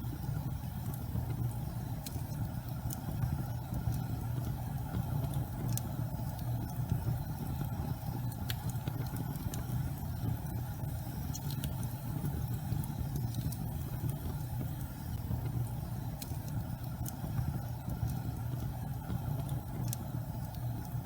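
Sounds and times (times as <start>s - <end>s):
gas fireplace flame rumbling: 0.0s - 21.0s
faint sharp crackles: 0.1s - 21.0s.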